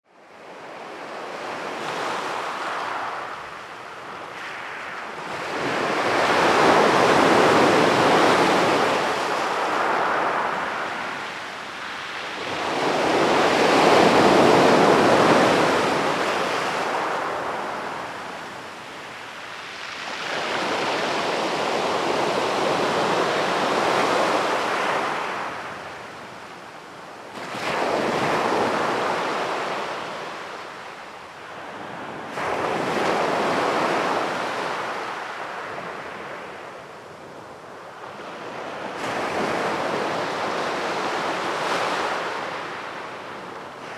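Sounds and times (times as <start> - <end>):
sea waves breaking on beach: 0.4 - 43.9.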